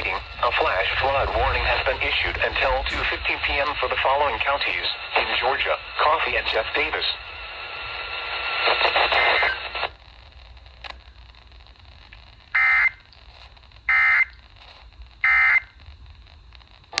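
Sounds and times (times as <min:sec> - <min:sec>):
broadcast audio: 0:00.0 - 0:17.0.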